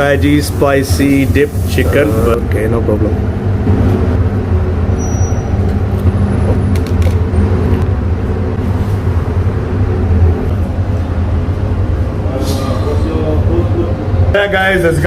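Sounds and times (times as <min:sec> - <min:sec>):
loud low machine hum: 0:00.0 - 0:15.0.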